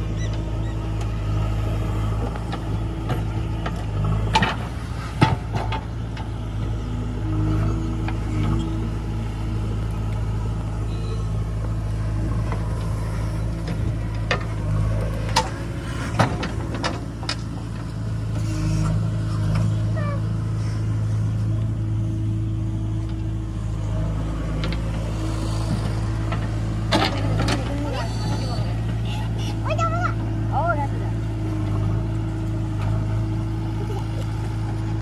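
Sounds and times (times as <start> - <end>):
backhoe digging and dumping soil: 0.0 - 35.0
diesel engine running under load: 0.0 - 35.0.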